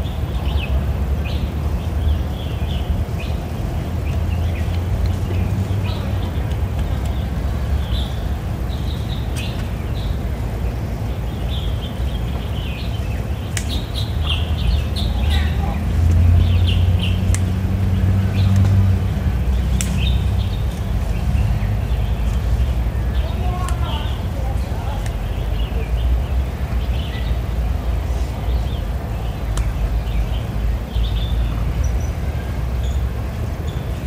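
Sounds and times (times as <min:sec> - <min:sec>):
birds chirping: 0:00.0 - 0:34.0
low outdoor rumble: 0:00.0 - 0:34.0.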